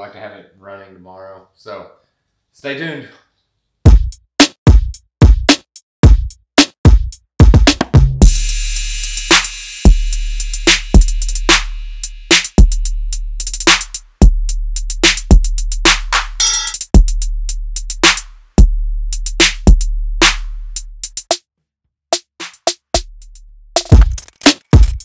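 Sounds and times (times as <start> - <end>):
drum machine beat: 3.9 - 21.4, 22.2 - 25.0.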